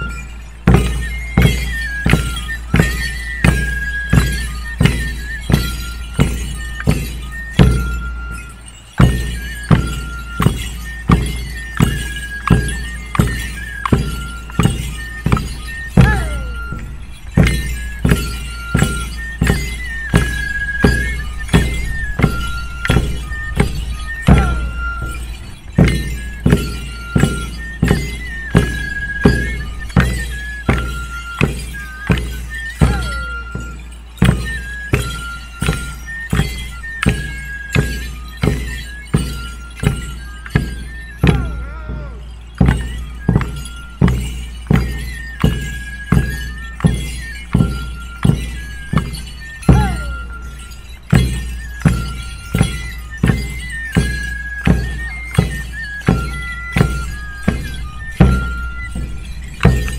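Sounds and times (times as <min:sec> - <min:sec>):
hand drums struck in steady beat: 0:00.0 - 0:59.9
high melody of held notes: 0:00.0 - 0:59.9.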